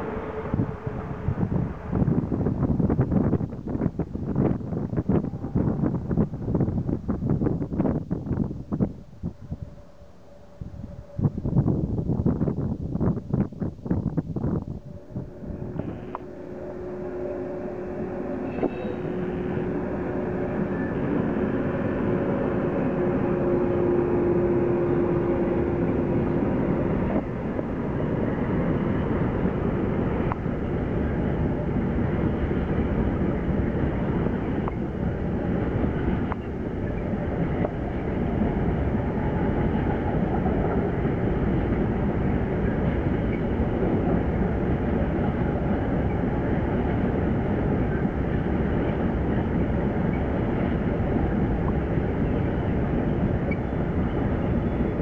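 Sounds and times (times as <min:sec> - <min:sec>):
train rumbling past: 0:00.0 - 0:55.0.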